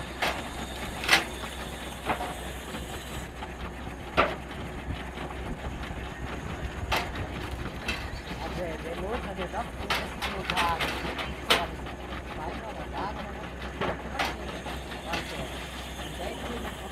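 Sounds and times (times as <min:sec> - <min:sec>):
treadmill mechanical rumble: 0:00.0 - 0:16.9.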